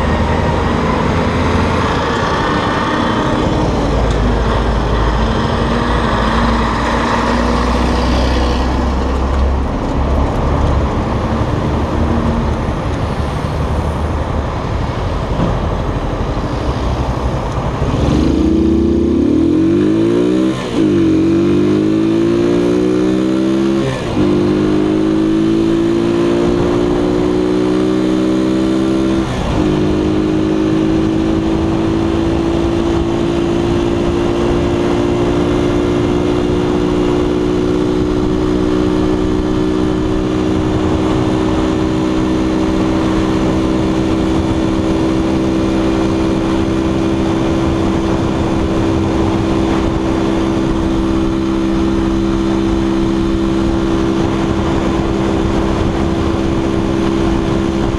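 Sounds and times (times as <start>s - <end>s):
wind on microphone: 0.0s - 57.9s.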